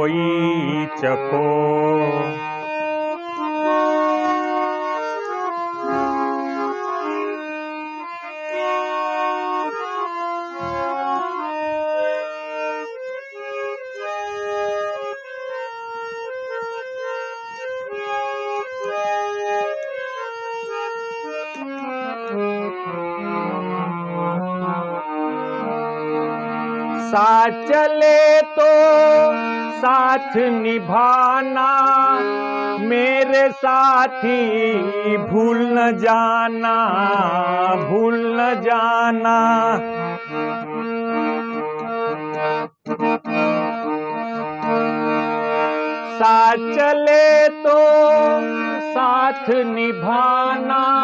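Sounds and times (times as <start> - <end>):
harmonium playing a melody: 0.0 - 51.0.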